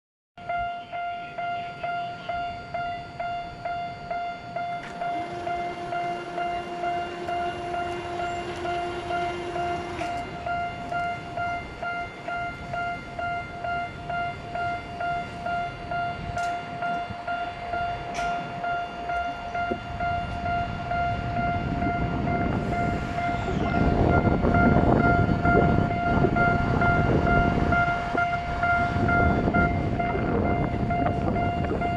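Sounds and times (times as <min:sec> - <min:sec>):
level-crossing alarm bell ringing: 0:00.4 - 0:31.9
train rumble: 0:00.4 - 0:31.9.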